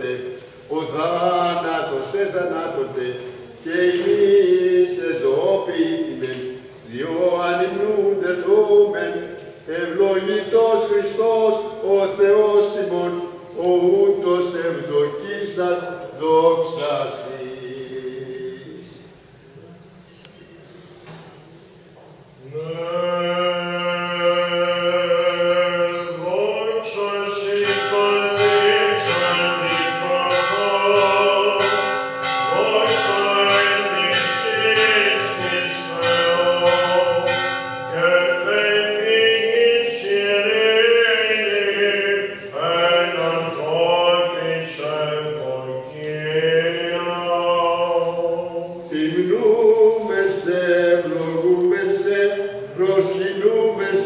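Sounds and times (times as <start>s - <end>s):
man chanting melismatic line: 0.0s - 19.1s, 22.5s - 54.0s
steady held vocal drone: 0.0s - 19.3s, 22.4s - 54.0s.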